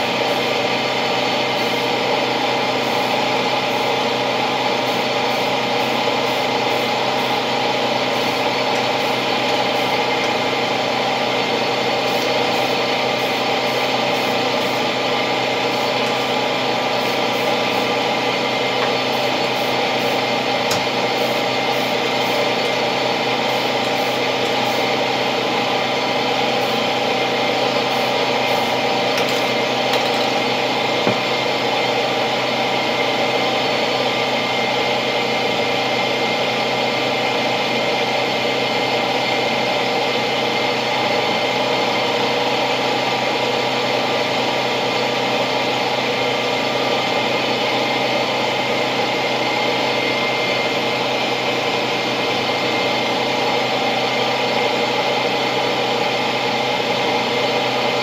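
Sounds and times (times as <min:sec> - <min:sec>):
mechanical hum of small motor: 0:00.0 - 0:58.0.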